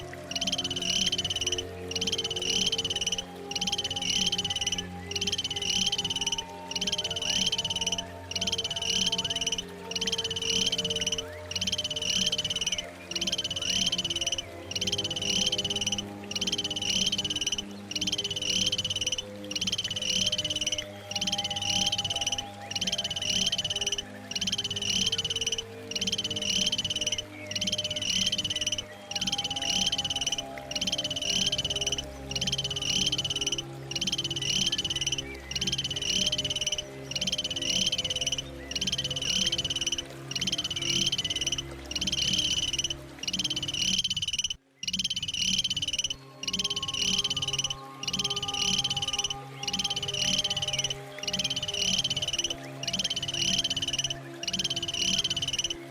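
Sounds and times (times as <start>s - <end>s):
animal's rapid pulsing trill: 0.0s - 55.8s.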